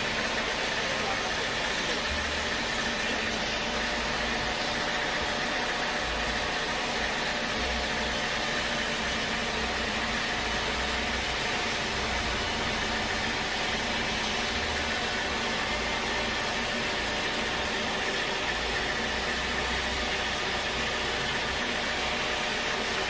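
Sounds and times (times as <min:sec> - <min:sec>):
sawmill machinery running: 0:00.0 - 0:23.0.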